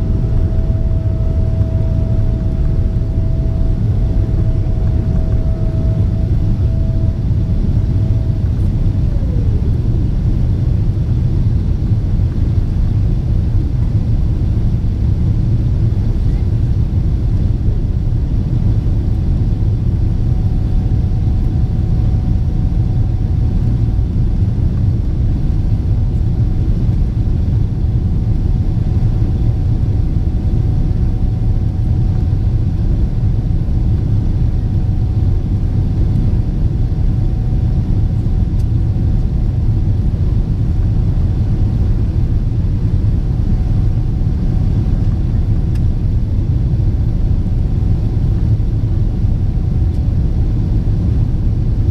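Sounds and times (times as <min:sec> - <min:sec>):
airplane cabin rumble: 0:00.0 - 0:51.9
faint steady whine: 0:00.0 - 0:51.9.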